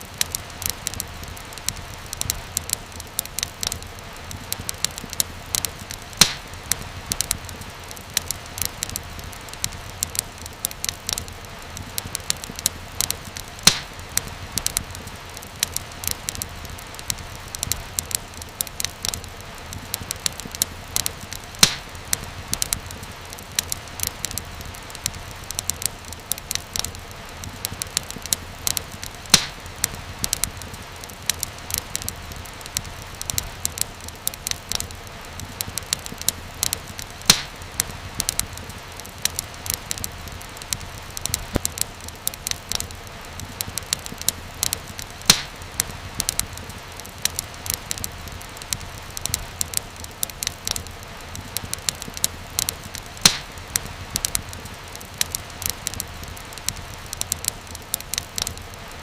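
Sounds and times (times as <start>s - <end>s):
fire popping loudly: 0.0s - 59.0s
wood fire crackling: 0.0s - 59.0s.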